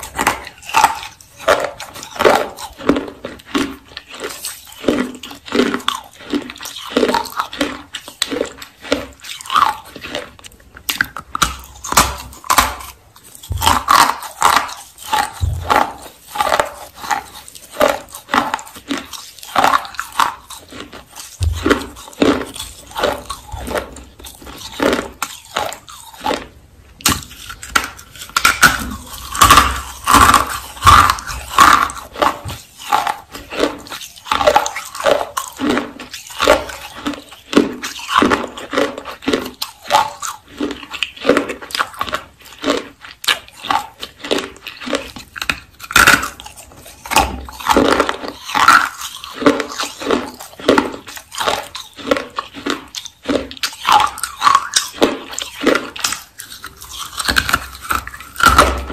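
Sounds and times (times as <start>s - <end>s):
crisp crunching bites: 0.0s - 58.9s
person chewing: 0.0s - 58.9s.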